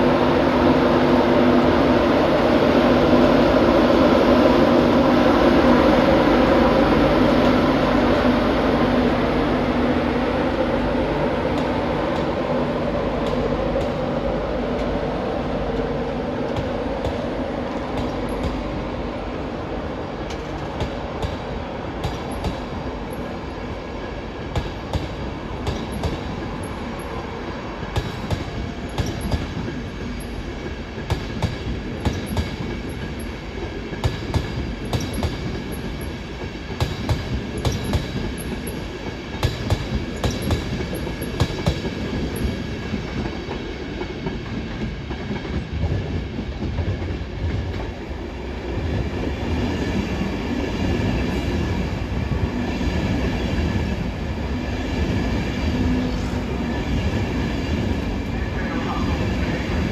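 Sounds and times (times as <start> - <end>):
electric locomotive hum: 0.0 - 59.9.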